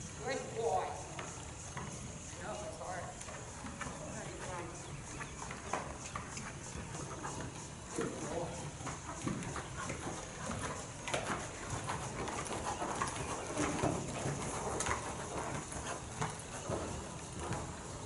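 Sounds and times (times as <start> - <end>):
horse hoofbeats on sand: 0.0 - 18.0.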